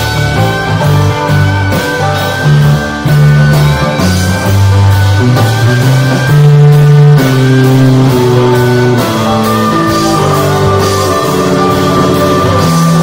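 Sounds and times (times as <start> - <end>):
bass notes: 0.0 - 13.0
steady drum beat: 0.0 - 13.0.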